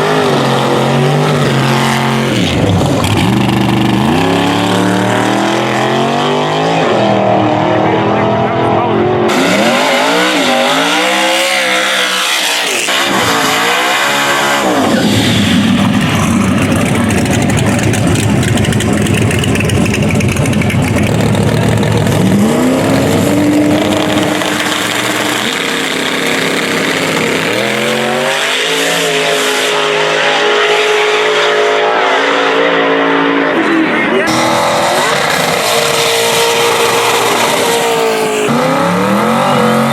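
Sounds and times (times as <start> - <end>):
car full-throttle run: 0.0 - 39.9
drag racing engines revving: 0.0 - 39.9.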